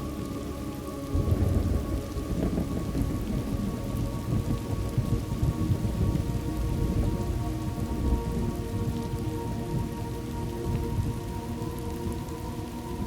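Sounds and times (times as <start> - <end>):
steady rain falling: 0.0 - 13.0
low rumble of thunder: 0.7 - 13.0.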